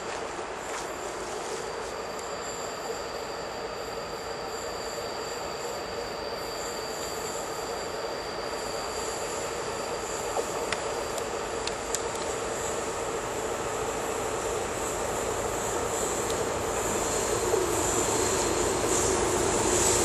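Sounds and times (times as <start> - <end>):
train running noise: 0.0 - 20.0
train wheels squealing: 0.0 - 20.0.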